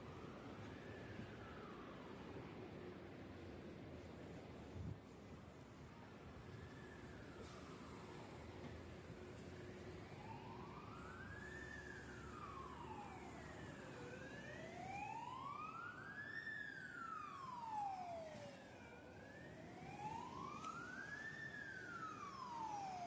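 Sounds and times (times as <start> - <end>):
fire engine siren wailing: 0.0 - 23.0.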